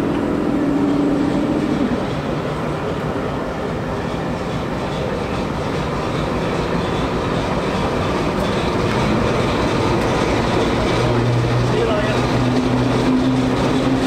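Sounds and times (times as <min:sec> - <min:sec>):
coaches rolling on track: 0:00.0 - 0:14.0
diesel locomotive engine running: 0:00.0 - 0:14.0.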